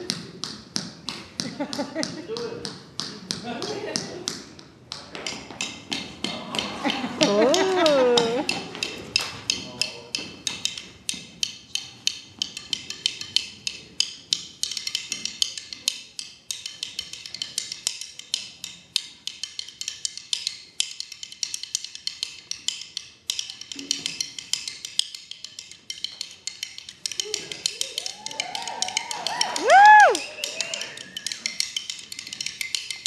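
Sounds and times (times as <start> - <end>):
drumsticks clicking together: 1.1 - 33.0.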